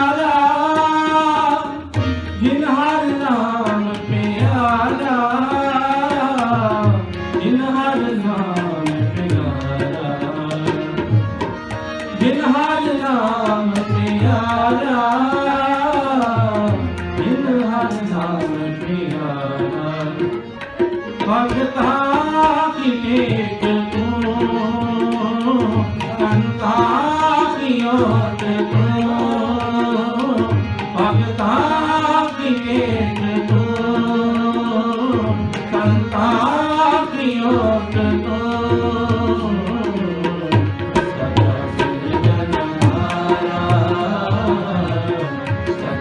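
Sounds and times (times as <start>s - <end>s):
harmonium: 0.0s - 46.0s
man singing: 0.0s - 46.0s
tabla drums: 0.0s - 46.0s.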